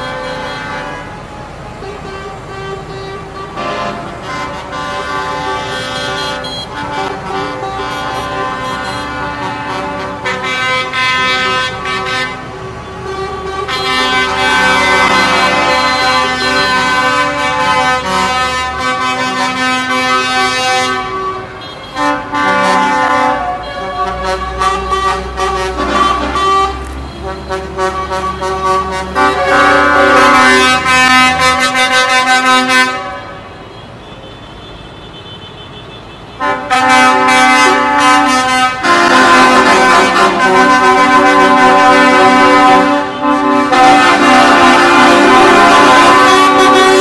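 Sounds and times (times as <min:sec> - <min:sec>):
vehicle horns blasting: 0:00.0 - 0:47.0.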